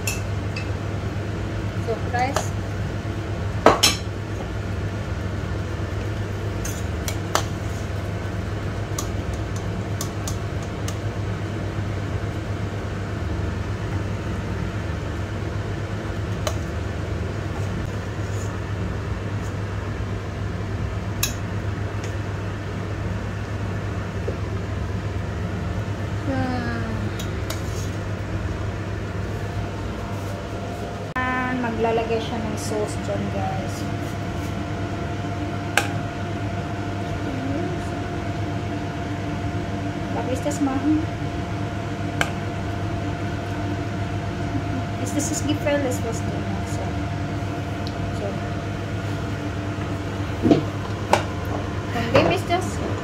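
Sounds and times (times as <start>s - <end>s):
low kitchen hum: 0.0s - 53.0s.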